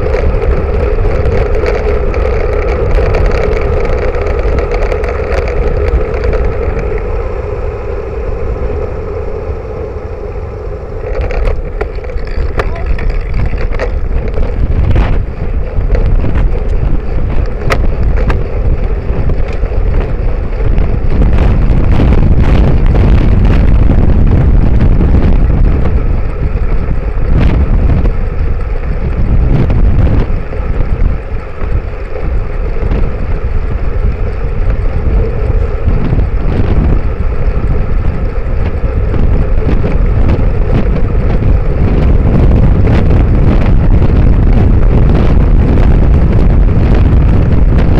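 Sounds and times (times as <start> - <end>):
tyres rumbling on road: 0.0 - 47.9
wind buffeting microphone: 0.0 - 47.9.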